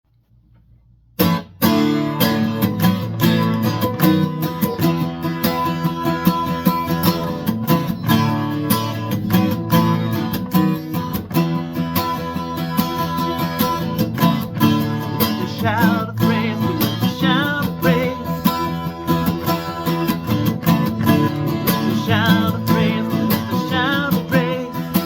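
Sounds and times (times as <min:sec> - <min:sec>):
strummed acoustic guitar: 0:01.2 - 0:25.0.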